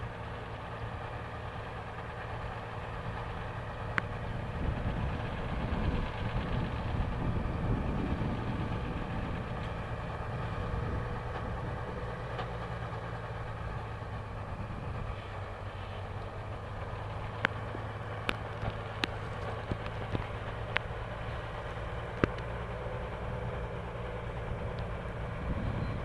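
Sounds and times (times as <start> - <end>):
truck engine running at low revs: 0.0 - 26.0.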